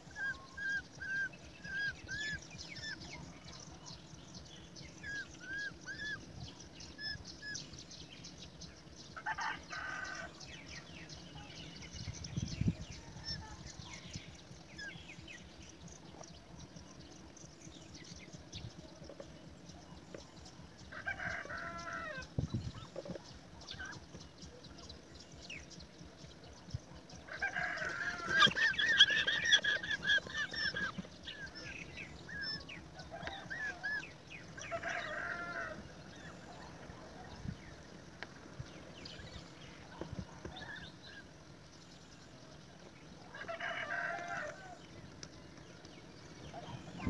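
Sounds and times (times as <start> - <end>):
young birds calling: 0.0 - 7.9, 8.7 - 47.0.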